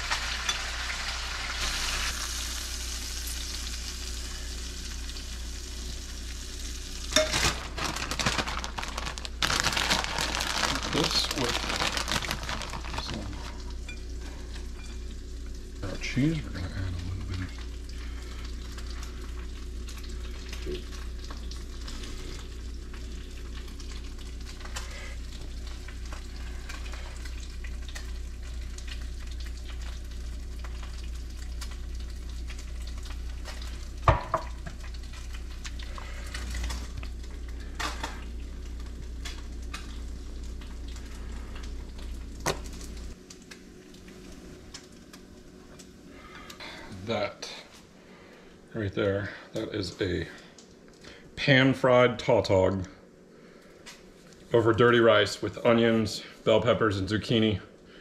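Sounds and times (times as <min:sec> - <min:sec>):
food sizzling in a pan: 0:00.0 - 0:46.8.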